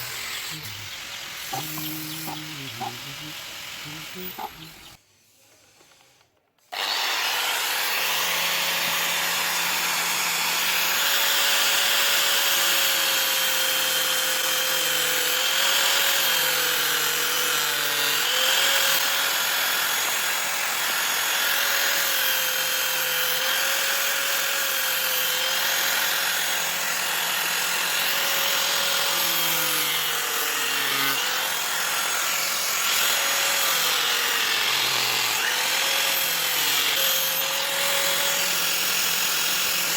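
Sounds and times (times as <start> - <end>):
electric grinder on steel: 0.0 - 5.0, 6.7 - 39.9.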